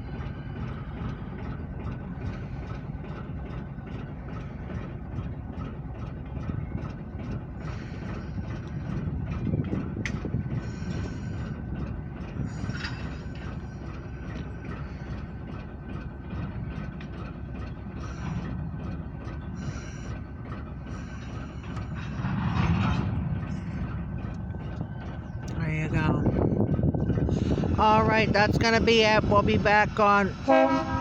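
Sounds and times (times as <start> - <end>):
diesel locomotive rumbling: 0.0 - 31.0
railroad cars clanking: 0.0 - 31.0
train wheels clicking on track: 0.0 - 31.0.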